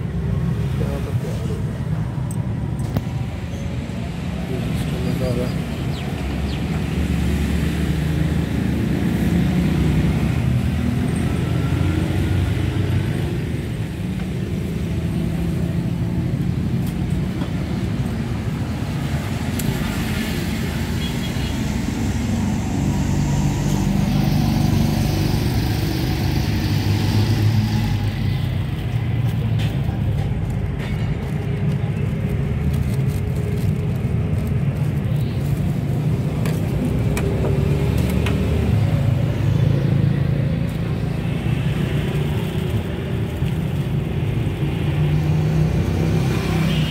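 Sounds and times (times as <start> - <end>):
road traffic rumble: 0.0 - 46.9.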